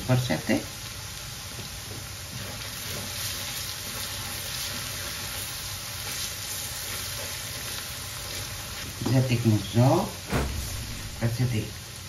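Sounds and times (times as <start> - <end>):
food sizzling in hot oil: 0.0 - 12.0
spatula stirring in a wok: 0.7 - 10.8.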